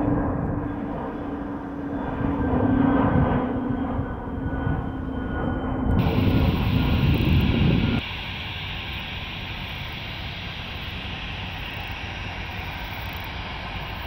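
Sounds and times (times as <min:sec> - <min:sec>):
jet engines rumbling overhead: 0:00.0 - 0:14.0.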